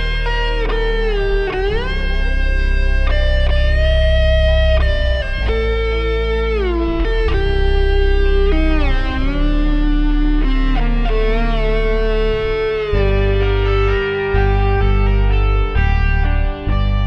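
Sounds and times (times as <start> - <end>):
electric guitar lead line: 0.0 - 17.0
steady low bass: 0.0 - 17.0.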